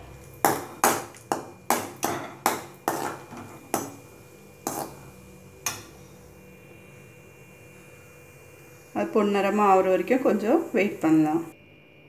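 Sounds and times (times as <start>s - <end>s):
nuts frying in fat: 0.0s - 11.6s.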